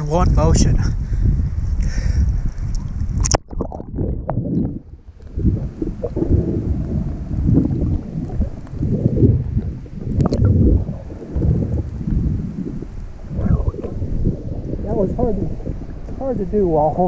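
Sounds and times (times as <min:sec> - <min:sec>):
water sloshing and gurgling: 0:02.3 - 0:17.0
water splashing: 0:02.7 - 0:17.0.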